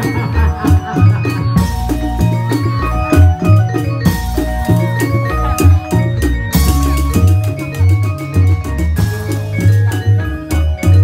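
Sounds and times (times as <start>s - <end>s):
drum strokes: 0.0s - 11.0s
ringing gong and metallophone: 0.0s - 11.0s.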